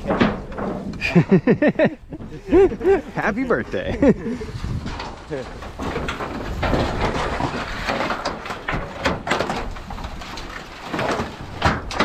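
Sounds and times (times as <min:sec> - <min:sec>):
tin sheets scraping and clattering: 0:00.0 - 0:12.0.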